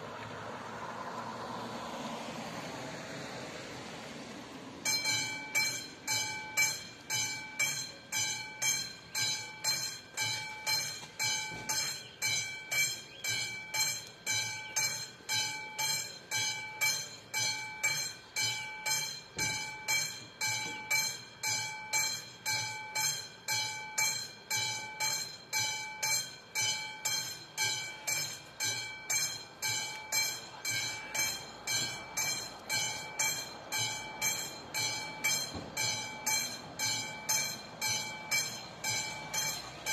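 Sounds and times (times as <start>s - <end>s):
level crossing warning bell ringing: 4.8s - 39.9s.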